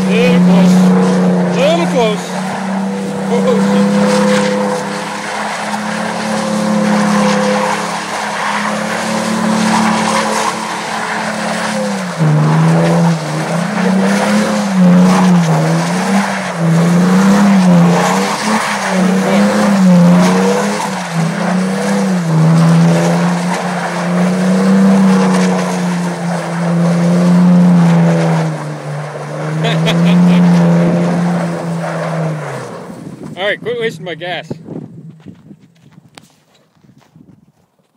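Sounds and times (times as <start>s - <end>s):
tyres spinning in snow: 0.0s - 33.4s
truck engine revving: 0.0s - 34.6s.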